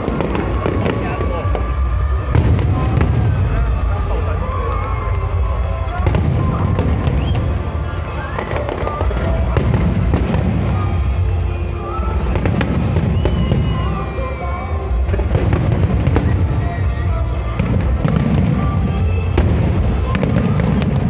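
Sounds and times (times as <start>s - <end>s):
fireworks booming: 0.0s - 21.0s
fireworks cracking: 0.0s - 21.0s
fireworks whistling: 0.0s - 21.0s.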